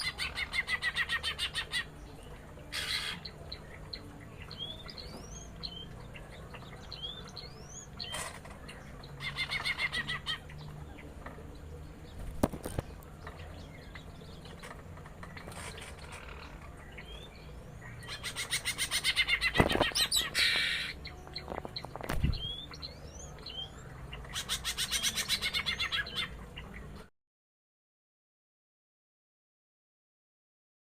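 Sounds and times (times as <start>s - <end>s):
birds chirping and trilling: 0.0s - 27.1s.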